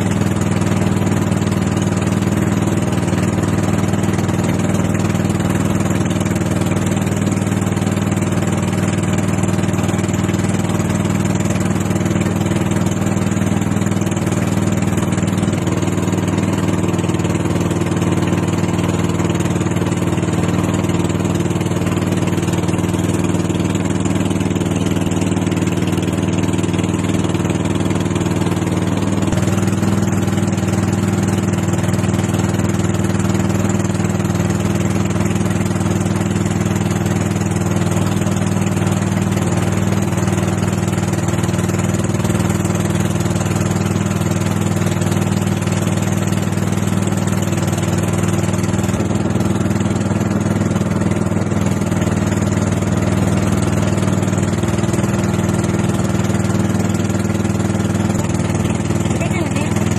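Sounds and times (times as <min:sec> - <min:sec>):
small boat engine running: 0:00.0 - 0:59.9.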